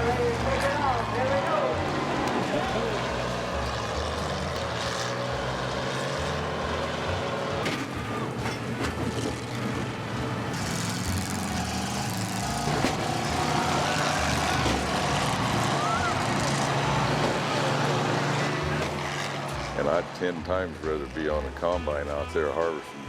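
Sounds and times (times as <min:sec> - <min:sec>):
combine harvester engines running: 0:00.0 - 0:23.0.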